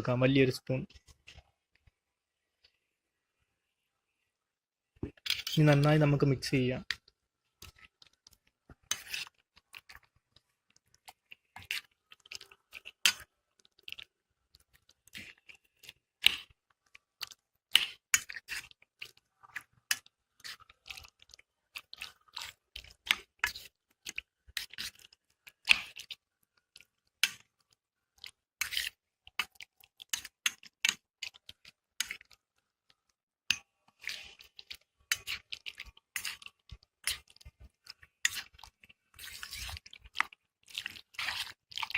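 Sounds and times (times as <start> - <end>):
wet squelches of mixing chicken: 5.0 - 41.9.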